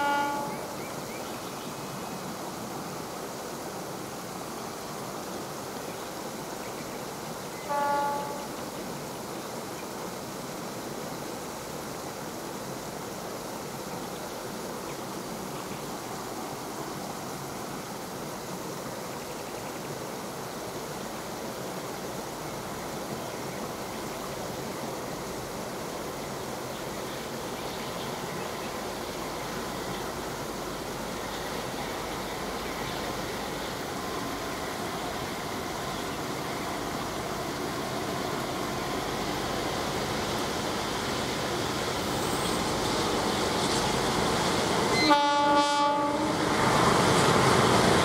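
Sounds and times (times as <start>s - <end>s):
outdoor background noise: 0.0s - 48.0s.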